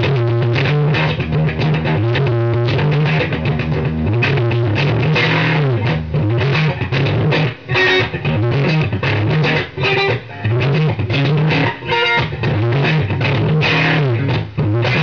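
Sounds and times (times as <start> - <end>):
electric guitar heavy riff: 0.0 - 15.0.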